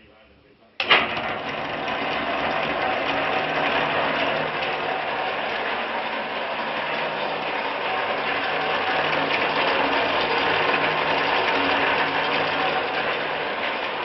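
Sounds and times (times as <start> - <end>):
electric motor running: 1.0 - 14.0.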